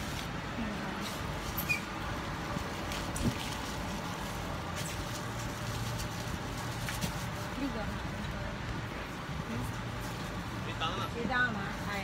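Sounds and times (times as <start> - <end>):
busy street market din: 0.0 - 12.0.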